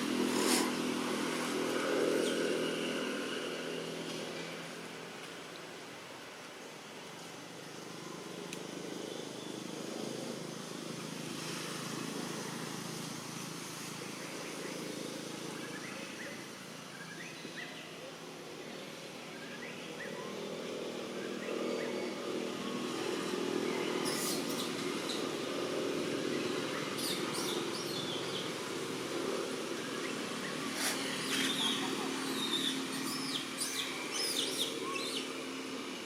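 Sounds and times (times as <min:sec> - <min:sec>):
engine hum: 0:00.0 - 0:36.0.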